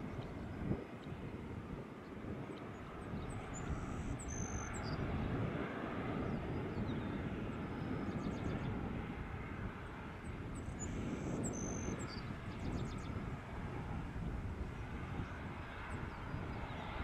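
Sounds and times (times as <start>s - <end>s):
jet engines at taxi power: 0.0s - 17.0s.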